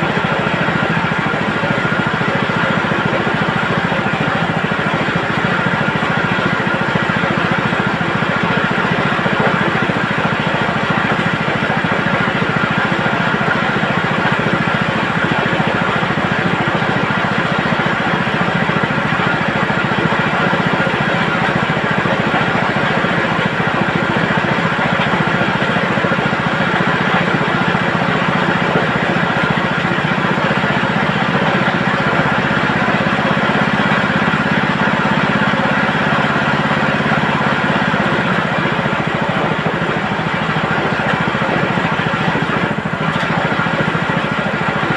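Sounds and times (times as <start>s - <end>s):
chicken-plucking machine running: 0.0s - 44.9s.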